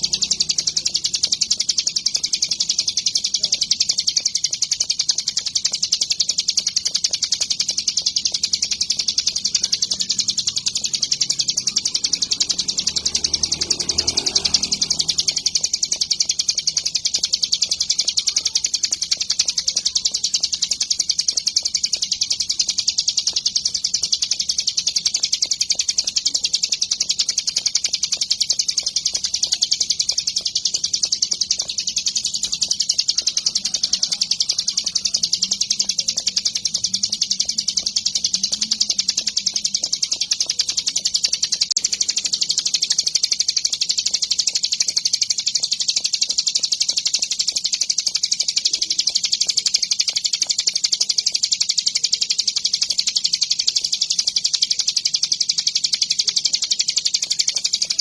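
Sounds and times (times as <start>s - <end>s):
bird high chirping song: 0.0s - 58.0s.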